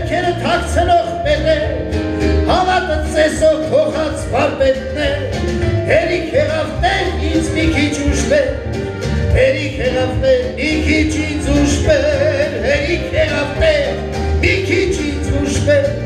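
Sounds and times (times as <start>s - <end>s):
man singing into microphone: 0.0s - 16.0s.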